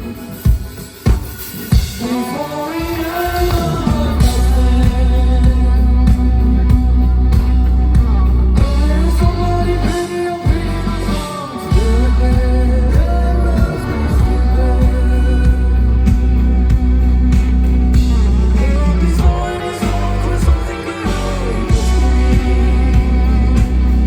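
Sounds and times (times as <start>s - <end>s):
live rock band: 0.0s - 24.0s
person singing: 2.0s - 24.0s.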